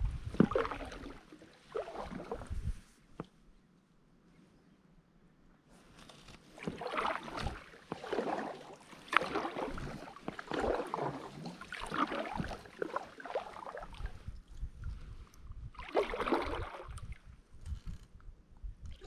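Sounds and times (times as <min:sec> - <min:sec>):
paddle strokes through water: 0:00.0 - 0:03.3, 0:05.7 - 0:18.1.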